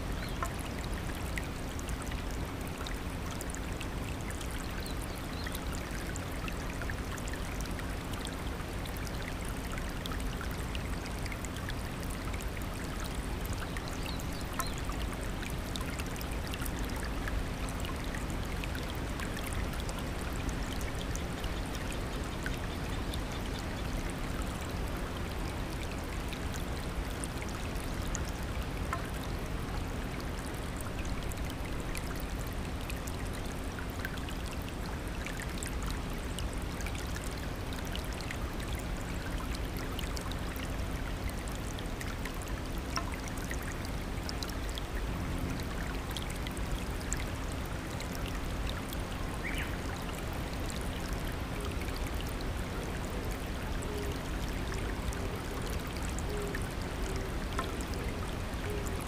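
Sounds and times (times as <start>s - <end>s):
faint water splashing ticks: 0.1s - 59.0s.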